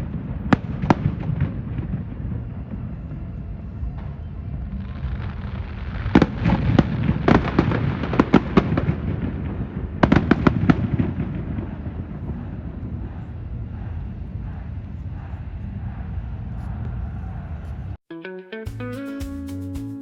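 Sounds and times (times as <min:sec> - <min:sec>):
low rumble of firework bursts: 0:00.0 - 0:18.0.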